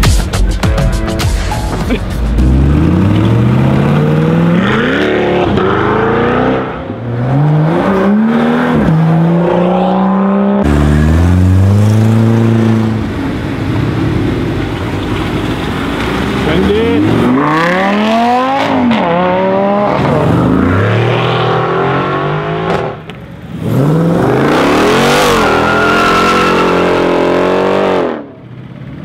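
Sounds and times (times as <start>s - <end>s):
car engine revving: 1.8s - 28.4s.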